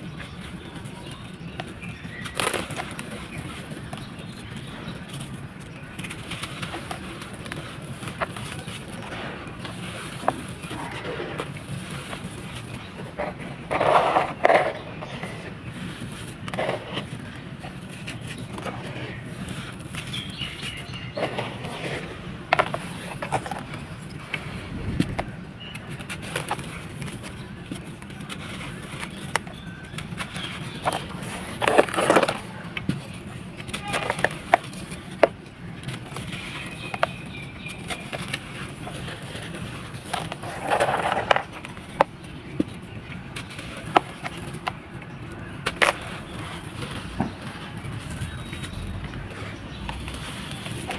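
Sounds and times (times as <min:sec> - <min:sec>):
gritty crunching of cement balls: 0:00.0 - 0:50.9.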